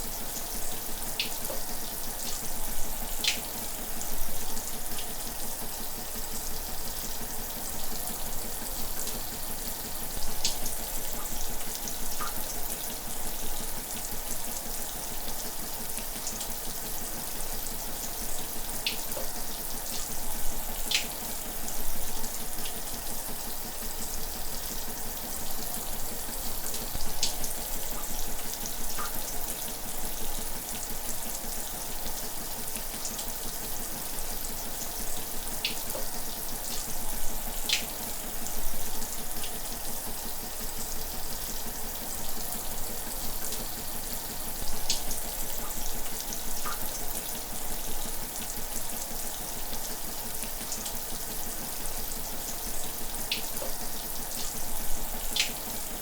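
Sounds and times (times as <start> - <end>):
shower running: 0.0 - 56.0.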